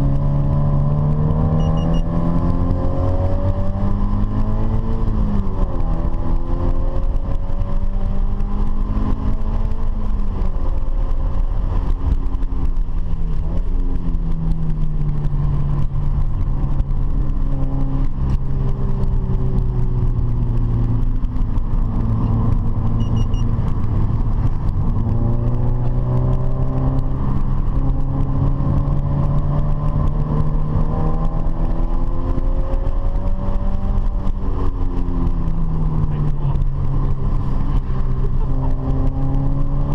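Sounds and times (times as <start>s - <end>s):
car engine revving: 0.0s - 39.9s
low road noise: 0.0s - 39.9s.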